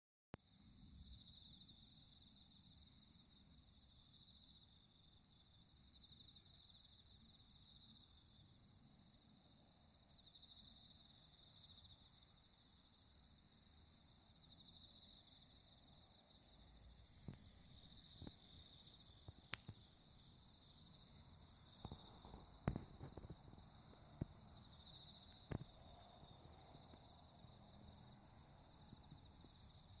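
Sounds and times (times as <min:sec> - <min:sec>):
insects trilling: 0:00.4 - 0:30.0
pulsing insect trill: 0:00.4 - 0:30.0.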